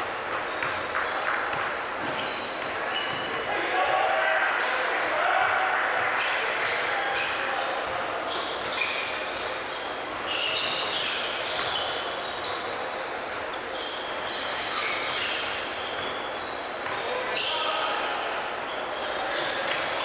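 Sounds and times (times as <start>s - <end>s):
sneakers squeaking: 0.0s - 20.0s.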